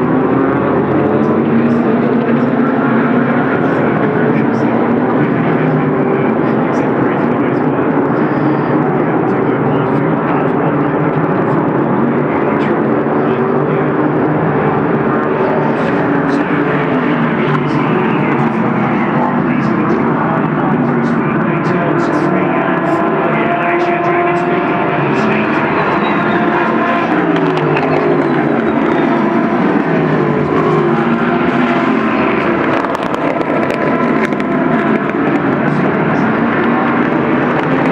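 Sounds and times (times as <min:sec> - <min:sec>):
race car engines: 0:00.0 - 0:37.9.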